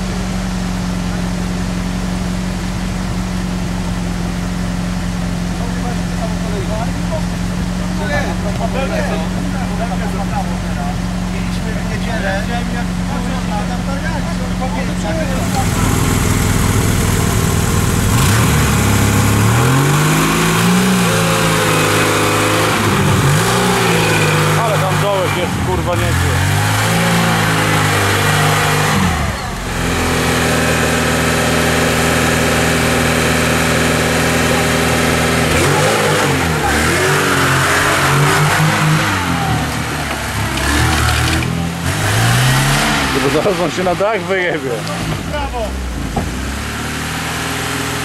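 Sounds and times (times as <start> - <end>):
car engine revving hard: 7.4 - 48.0.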